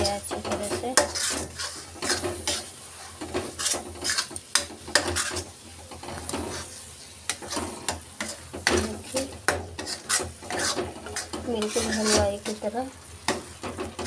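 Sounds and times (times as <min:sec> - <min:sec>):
paste sizzling in oil: 0:00.0 - 0:14.0
spatula scraping metal pan: 0:00.0 - 0:14.0.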